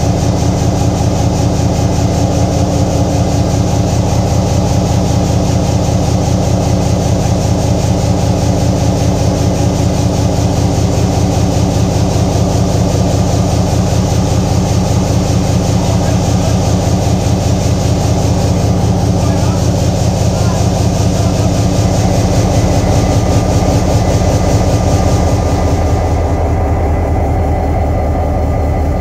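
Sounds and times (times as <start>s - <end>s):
locomotive diesel engine running: 0.0s - 29.0s.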